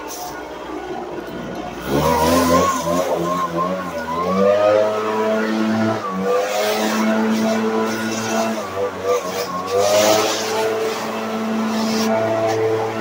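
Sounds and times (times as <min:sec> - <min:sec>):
leaf blower running: 0:01.0 - 0:13.0.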